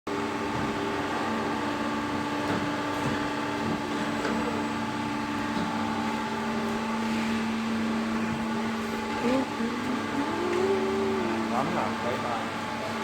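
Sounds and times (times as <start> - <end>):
pipe bending machine humming: 2.1 - 13.0.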